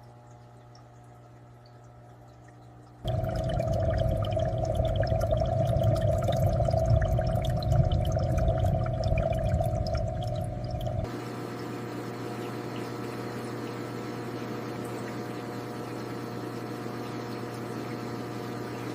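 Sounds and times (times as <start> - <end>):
low steady hum: 0.0 - 17.2
aquarium water bubbling: 0.0 - 18.9.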